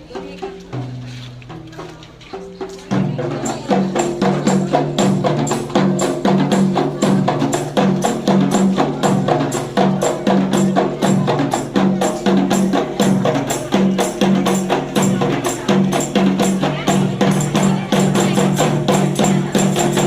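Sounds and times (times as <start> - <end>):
frame drums playing quick rhythm: 0.0 - 20.0.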